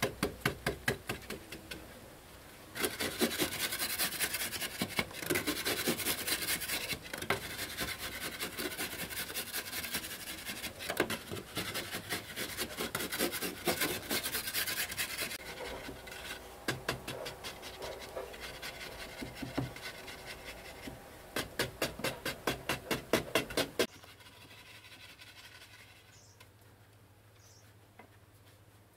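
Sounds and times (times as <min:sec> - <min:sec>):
hand tool scraping mud wall: 0:02.8 - 0:26.3.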